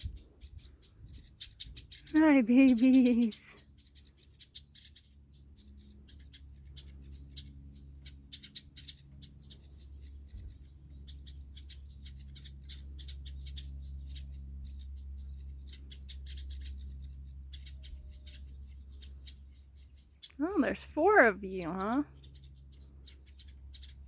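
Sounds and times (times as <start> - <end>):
nestling birds cheeping: 0.0 - 24.0.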